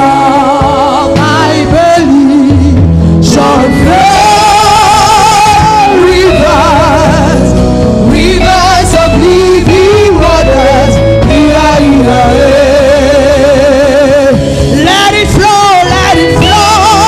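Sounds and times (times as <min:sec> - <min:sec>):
gospel singing with vibrato: 0:00.0 - 0:17.0
sustained bass notes: 0:00.0 - 0:17.0.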